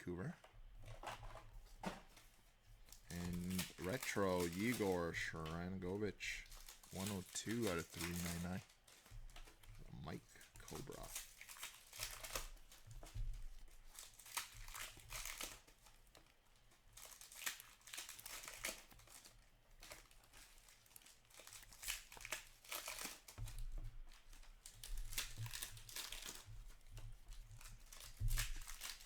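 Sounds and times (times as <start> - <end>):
cards being shuffled: 0.8 - 29.0
wrappers crinkling and tearing: 0.8 - 29.0.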